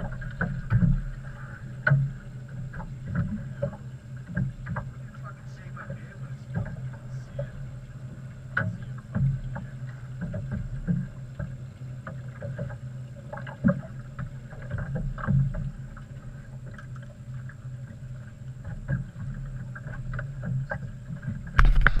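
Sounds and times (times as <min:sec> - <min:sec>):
boat low hum: 0:00.0 - 0:22.0.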